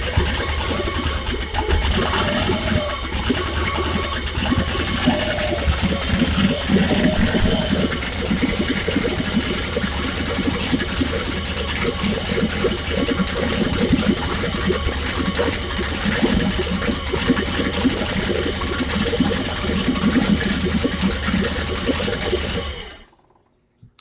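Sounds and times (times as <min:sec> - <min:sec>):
turbocharged engine running: 0:00.0 - 0:23.2.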